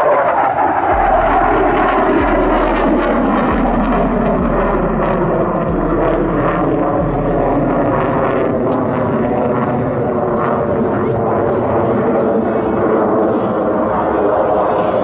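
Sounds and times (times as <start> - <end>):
fighter jet flying overhead: 0.0 - 15.0.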